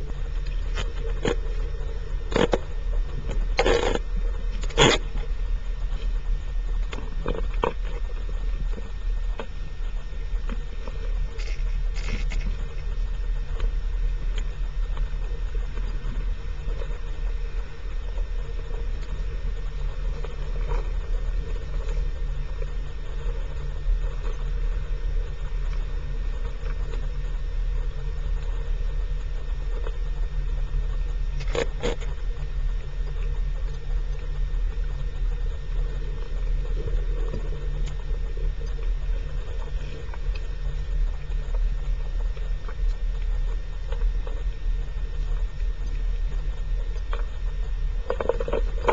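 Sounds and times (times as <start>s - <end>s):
sharp clicks underwater: 0.0s - 48.9s
underwater low rumble: 0.0s - 48.9s.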